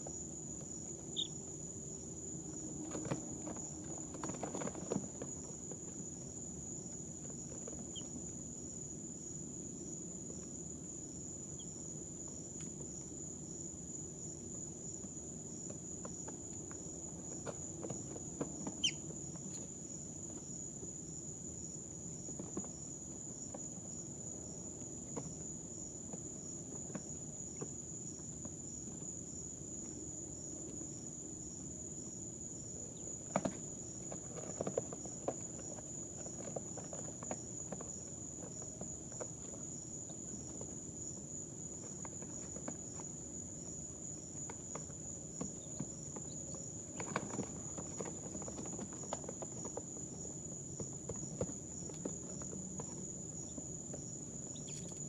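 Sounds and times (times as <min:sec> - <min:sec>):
chicks tapping and scratching in bedding: 0:00.0 - 0:55.0.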